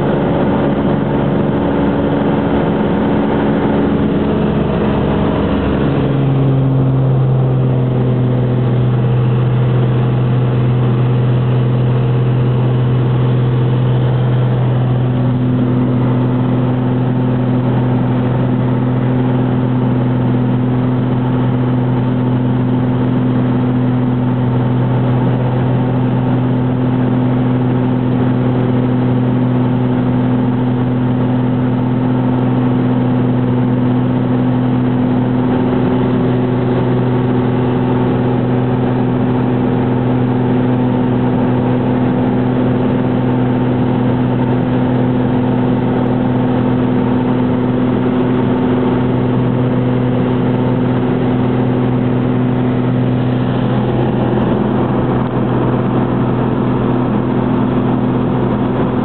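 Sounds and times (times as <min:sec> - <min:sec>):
plane engine and propeller droning: 0:00.0 - 0:59.0.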